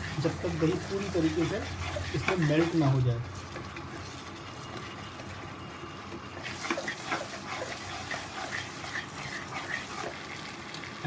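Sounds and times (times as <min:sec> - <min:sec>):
food sizzling in hot oil: 0:00.0 - 0:11.0
oil crackles: 0:00.0 - 0:11.0
spoon stirring in a pan: 0:00.0 - 0:11.0.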